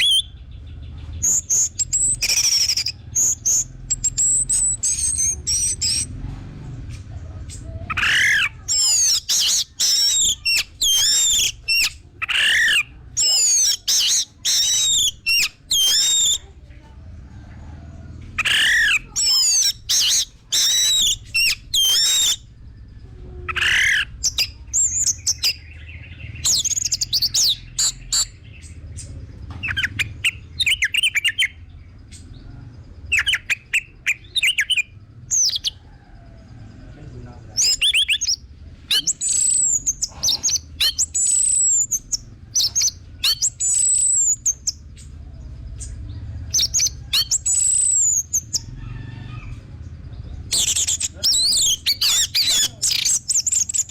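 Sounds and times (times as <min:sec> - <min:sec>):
low background rumble: 0:00.0 - 0:53.9
songbird singing: 0:00.0 - 0:53.9.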